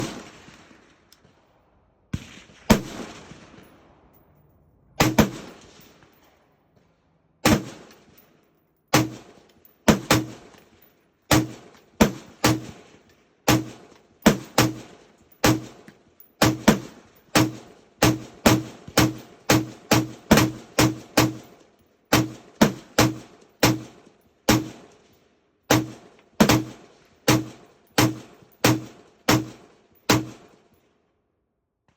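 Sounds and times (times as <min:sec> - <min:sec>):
rifle shots with echo: 0:00.0 - 0:01.5, 0:02.1 - 0:04.2, 0:05.0 - 0:06.2, 0:07.4 - 0:08.2, 0:08.9 - 0:10.6, 0:11.3 - 0:25.1, 0:25.7 - 0:30.6.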